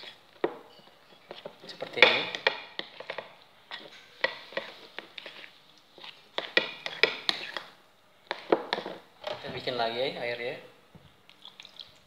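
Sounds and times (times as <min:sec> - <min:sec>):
spoon stirring batter in bowl: 0:00.0 - 0:09.8.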